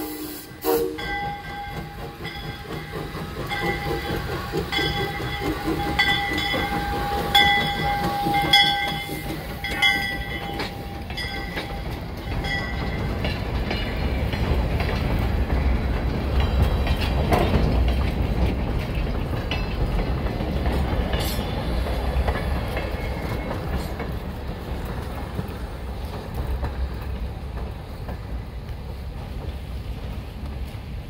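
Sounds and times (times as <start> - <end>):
freight train wheels rumbling on rail: 0.0 - 31.0
wheels clacking over rail joints: 0.8 - 31.0.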